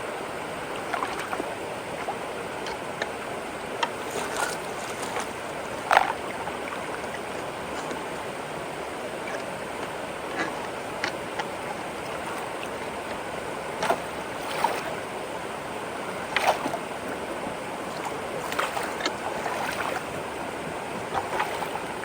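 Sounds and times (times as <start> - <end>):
water rushing into culvert: 0.0 - 22.0.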